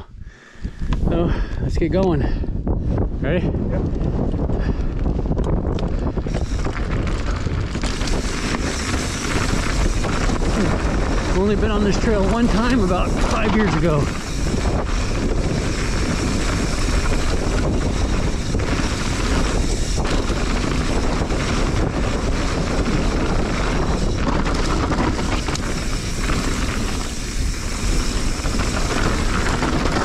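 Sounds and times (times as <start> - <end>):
bike clicks and rattles: 0.0 - 30.0
wind on microphone: 0.0 - 30.0
bike tyres on gravel: 0.3 - 30.0.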